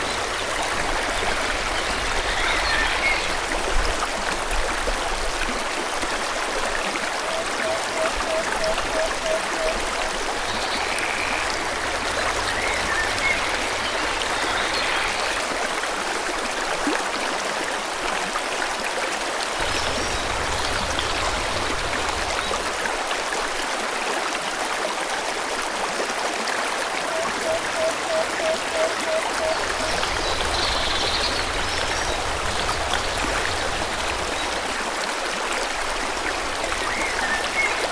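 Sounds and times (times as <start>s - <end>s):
stream flowing: 0.0s - 37.9s.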